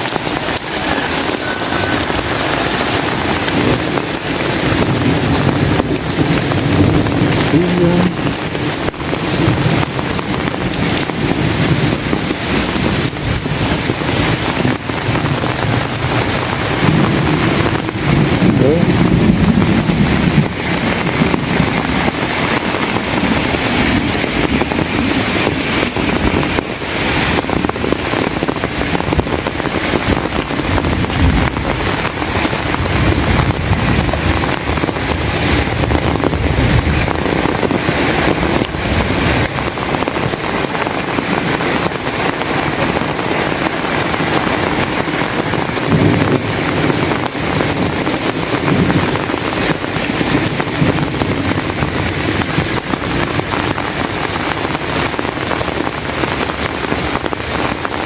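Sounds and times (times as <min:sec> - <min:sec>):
heavy rain pouring: 0:00.0 - 0:58.0
wind buffeting microphone: 0:00.0 - 0:58.0.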